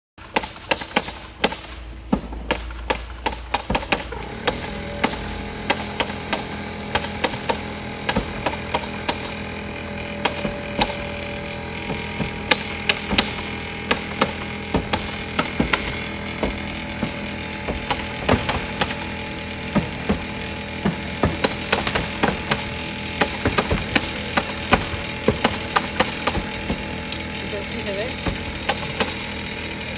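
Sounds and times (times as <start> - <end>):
hammer blows on nails: 0.2 - 29.9
pneumatic nailer shots: 0.2 - 29.9
steady machine hum: 0.2 - 29.9.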